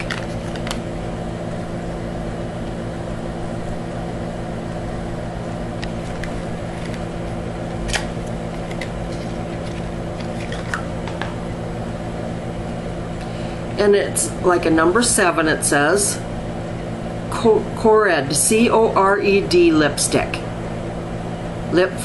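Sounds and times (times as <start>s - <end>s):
appliance humming: 0.0s - 22.0s.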